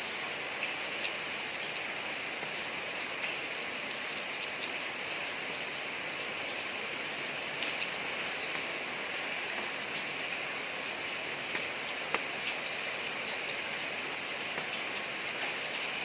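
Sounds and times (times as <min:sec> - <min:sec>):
rain falling on street: 0:00.0 - 0:16.0.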